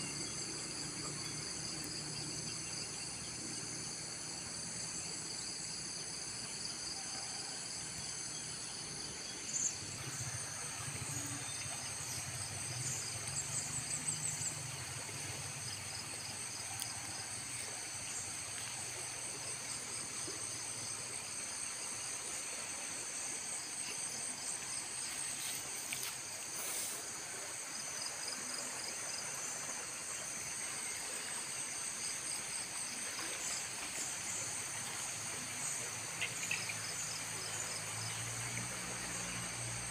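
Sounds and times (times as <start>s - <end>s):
insects chorus: 0.0s - 39.9s
river flowing: 0.0s - 39.9s.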